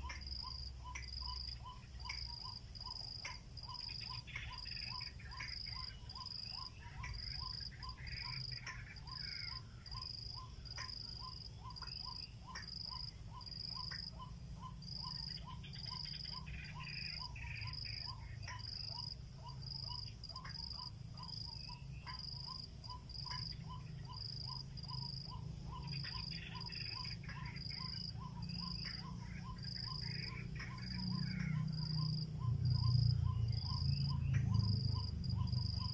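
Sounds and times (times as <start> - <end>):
bird harsh croaking calls: 0.0 - 35.9
insects chirping: 0.0 - 35.9.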